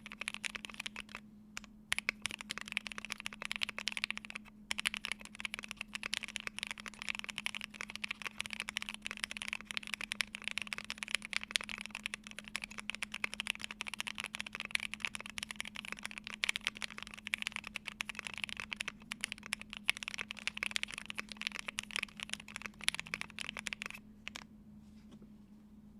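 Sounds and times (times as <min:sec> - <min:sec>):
fast mechanical keyboard typing: 0:00.0 - 0:24.4.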